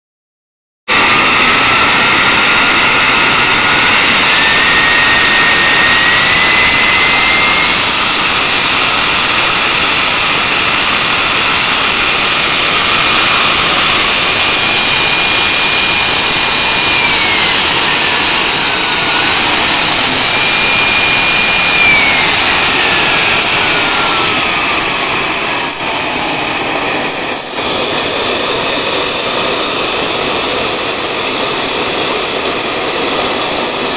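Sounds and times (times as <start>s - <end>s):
jet turbine engine whining: 0.9s - 33.9s.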